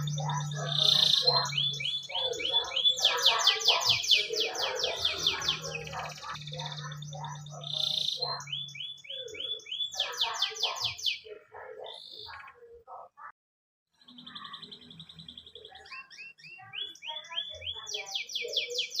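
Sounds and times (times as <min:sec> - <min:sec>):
canary singing chirps and trills: 0:00.0 - 0:13.3, 0:13.9 - 0:19.0.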